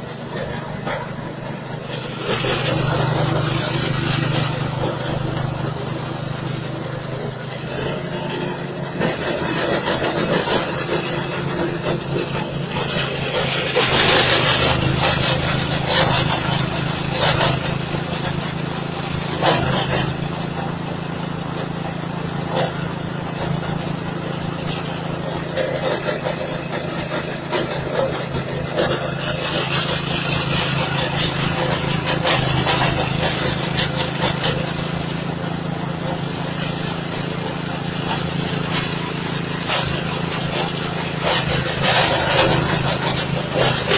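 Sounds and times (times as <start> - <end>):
straw chopper machine running: 0.0 - 43.9.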